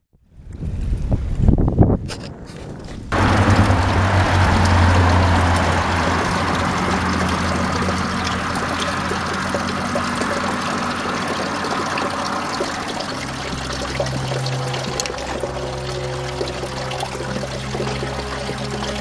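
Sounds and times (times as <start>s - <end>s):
water splashing into stone trough: 3.2s - 19.0s.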